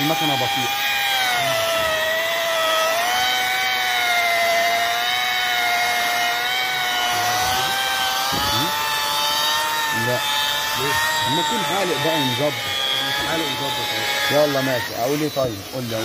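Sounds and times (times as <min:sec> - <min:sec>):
angle grinder motor whine: 0:00.0 - 0:16.0.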